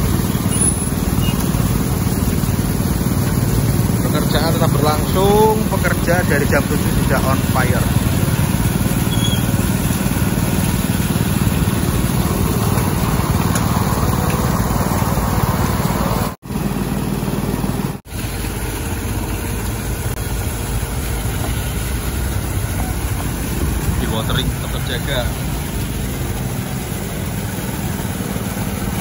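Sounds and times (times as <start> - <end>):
water gushing from hoses: 0.0 - 29.0
water pump engines droning: 0.0 - 29.0.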